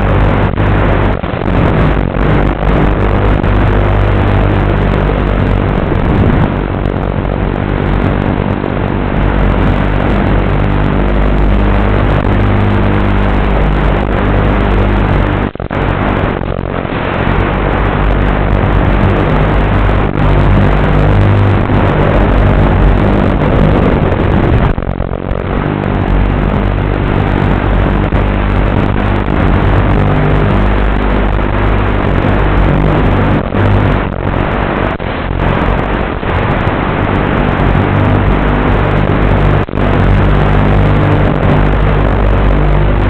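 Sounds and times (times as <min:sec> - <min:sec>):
rushing air: 0:00.0 - 0:43.0.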